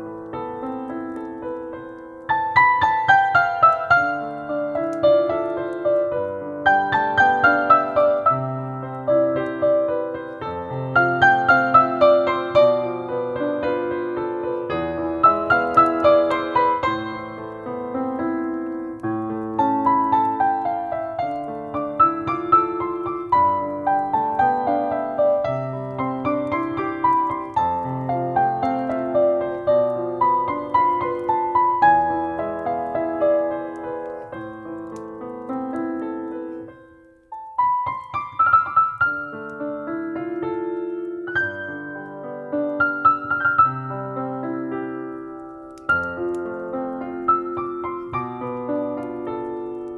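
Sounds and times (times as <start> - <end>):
solo piano melody: 0.0 - 49.9.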